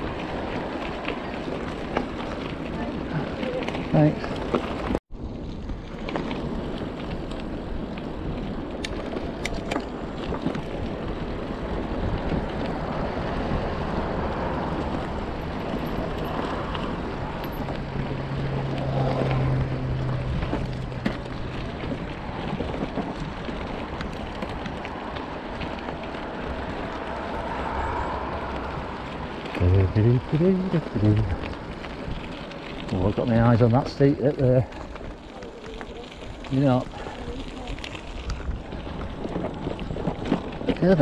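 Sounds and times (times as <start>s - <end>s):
wind noise on microphone: 0.0s - 33.6s, 36.1s - 41.0s
bike ride noise: 0.0s - 41.0s.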